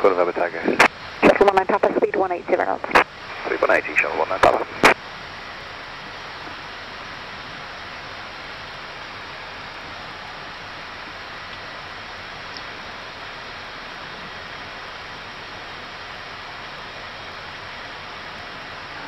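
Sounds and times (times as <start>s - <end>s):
cockpit air hiss: 0.0s - 19.0s.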